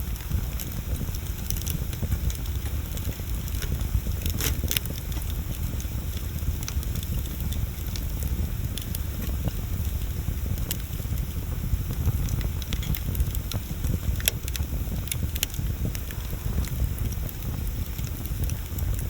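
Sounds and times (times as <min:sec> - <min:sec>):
fire crackling and popping: 0:00.0 - 0:19.0
low fire rumble: 0:00.0 - 0:19.0.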